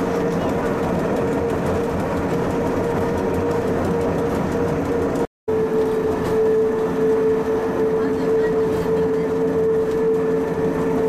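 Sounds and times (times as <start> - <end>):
railcar gear whine: 0.0 - 11.0
rumble of the ride: 0.0 - 11.0.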